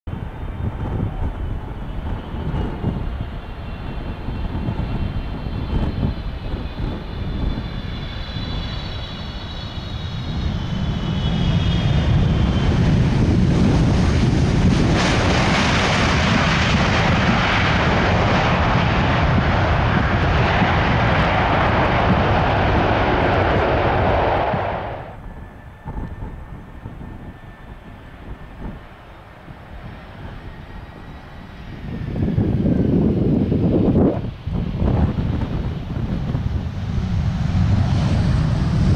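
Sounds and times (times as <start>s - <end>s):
jet engine roar: 0.1s - 38.9s
jet engine whine: 0.1s - 38.9s.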